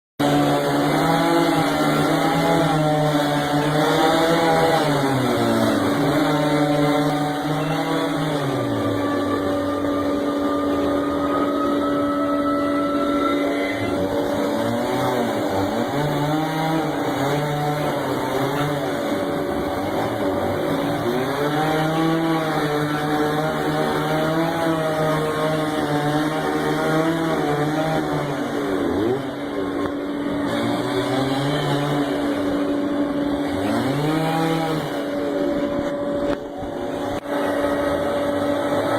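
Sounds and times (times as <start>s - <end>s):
chainsaw engine running: 0.2s - 38.9s.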